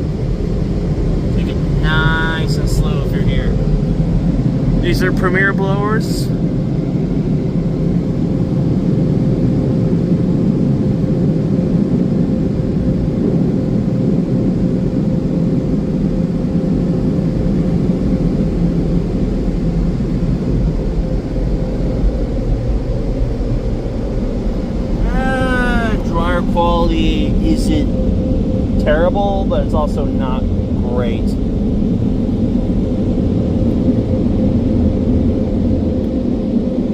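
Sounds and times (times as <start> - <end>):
dryer blowers rushing air: 0.0 - 36.9
thin steady whine: 0.0 - 36.9.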